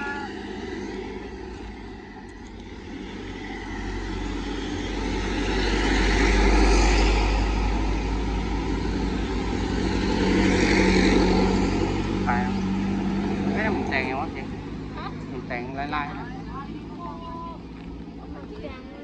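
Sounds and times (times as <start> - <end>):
truck passing: 0.0 - 19.0.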